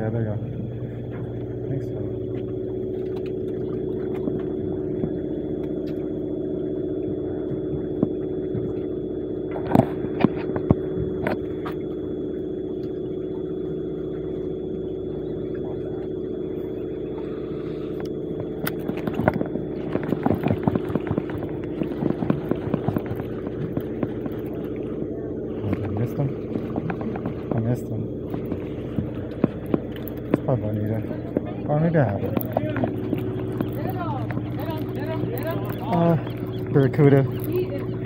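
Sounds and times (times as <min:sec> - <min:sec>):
boat engine humming: 0:00.0 - 0:38.0.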